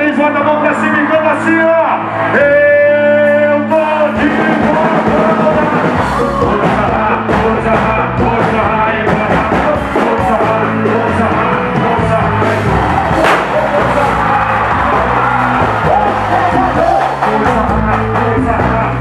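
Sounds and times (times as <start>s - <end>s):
live band music through speakers: 0.0s - 19.0s
person singing: 2.3s - 19.0s.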